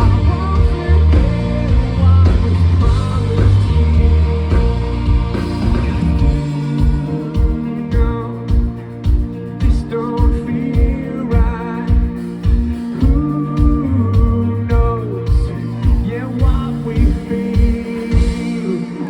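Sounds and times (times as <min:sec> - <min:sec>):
guitar and keyboard chords: 0:00.0 - 0:19.0
live rock band: 0:00.0 - 0:19.0
person singing lead vocal: 0:00.0 - 0:19.0.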